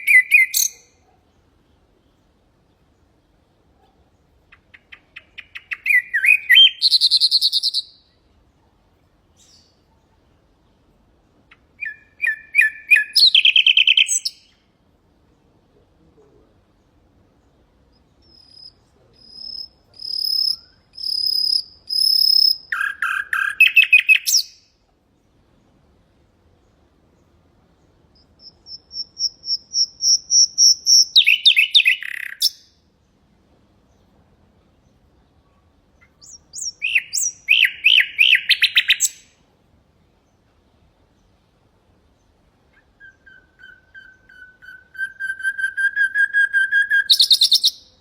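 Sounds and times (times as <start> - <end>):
nightingale singing: 0.0 - 25.8, 26.6 - 33.2, 34.8 - 39.5, 42.1 - 48.0.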